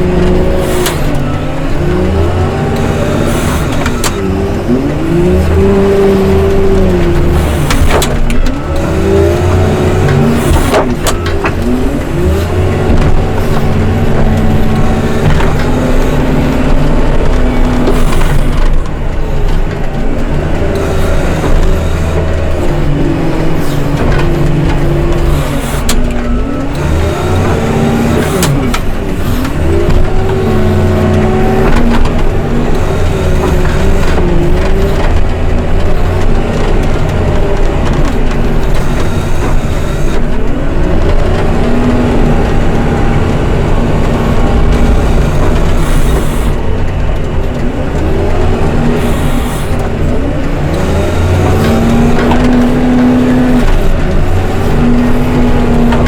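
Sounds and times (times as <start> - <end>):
heavy machine engine revving: 0.0 - 56.0.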